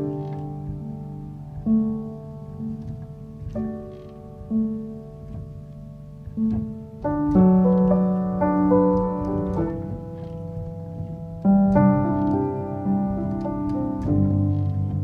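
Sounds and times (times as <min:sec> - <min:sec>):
piano-like instrumental music: 0:00.0 - 0:15.0.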